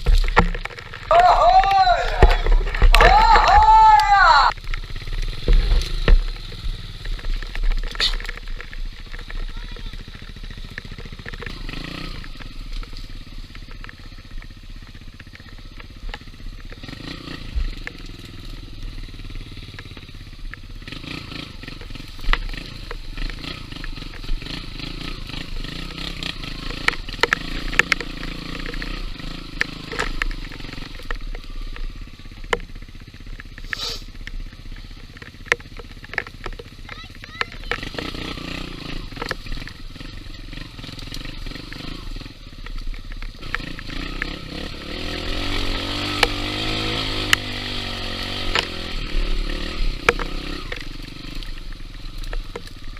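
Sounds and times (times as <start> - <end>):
clicks and knocks from bike: 0.0 - 52.9
motorcycle engine revving: 0.0 - 52.9.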